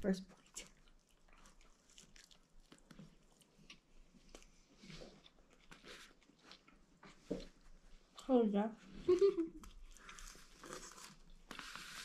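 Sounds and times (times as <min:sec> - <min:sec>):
chewing soft taco: 0:00.2 - 0:08.3, 0:09.0 - 0:12.0.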